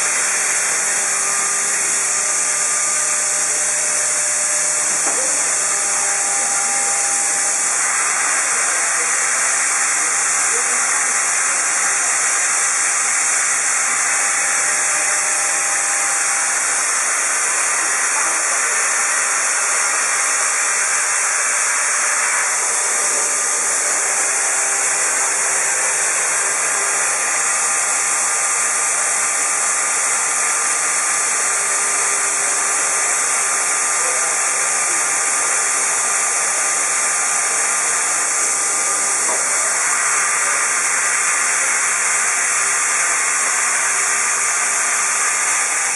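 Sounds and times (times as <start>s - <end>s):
router trimming plastic: 0.0s - 45.9s.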